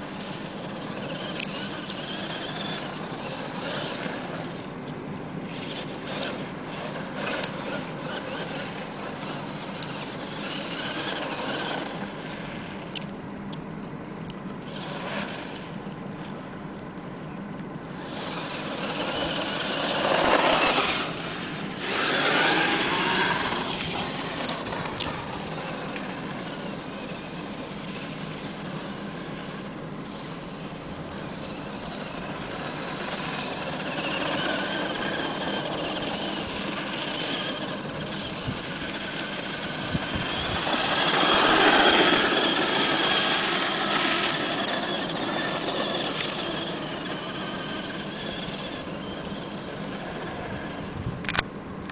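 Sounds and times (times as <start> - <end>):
toy truck electric motor whining: 0.0 - 4.7, 5.4 - 13.0, 14.6 - 15.7, 17.9 - 51.4.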